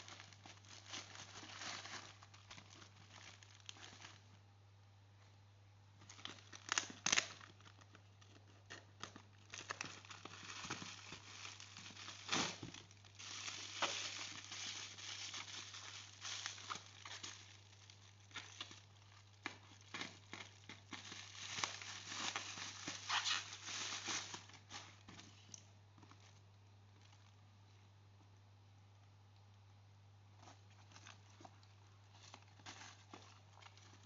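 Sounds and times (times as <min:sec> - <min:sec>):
plastic and paper crinkling: 0:00.0 - 0:04.4, 0:06.0 - 0:27.4, 0:30.4 - 0:34.0.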